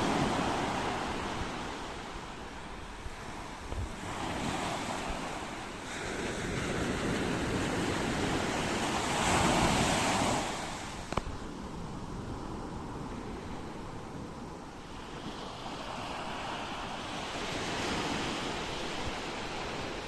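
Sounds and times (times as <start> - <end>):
ocean waves breaking on shore: 0.0 - 20.0.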